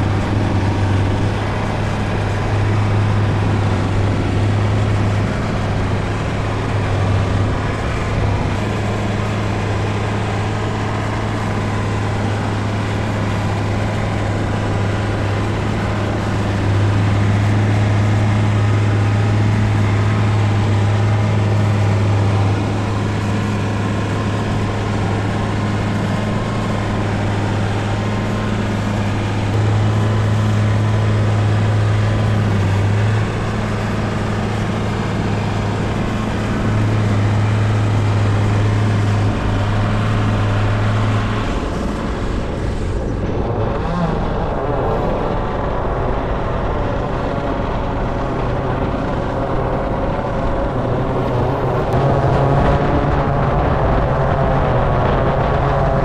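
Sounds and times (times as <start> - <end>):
drone propeller hum: 0.0 - 56.0.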